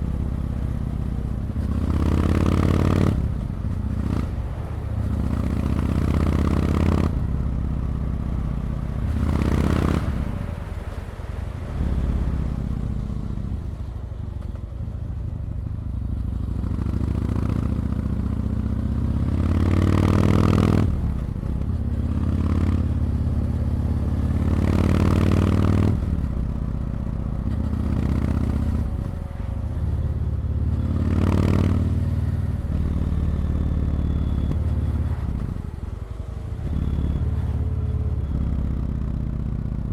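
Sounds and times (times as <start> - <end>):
motorcycle engine revving: 0.0 - 8.0, 8.9 - 10.9, 15.9 - 26.8, 27.4 - 39.9.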